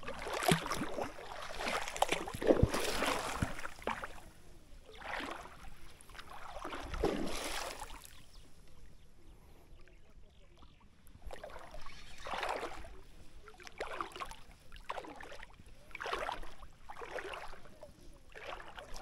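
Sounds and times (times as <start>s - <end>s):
water sloshing around wading legs: 0.0s - 8.8s, 11.1s - 19.0s.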